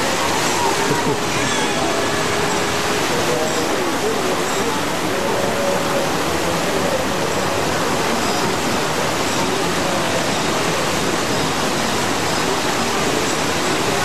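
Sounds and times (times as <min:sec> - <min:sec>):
whitewater rushing: 0:00.0 - 0:14.0.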